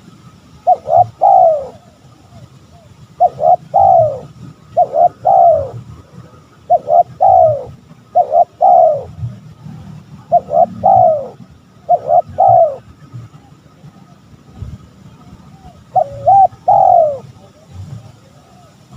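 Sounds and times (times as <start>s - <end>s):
dove cooing: 0.0s - 9.4s, 10.1s - 14.2s, 15.2s - 18.9s.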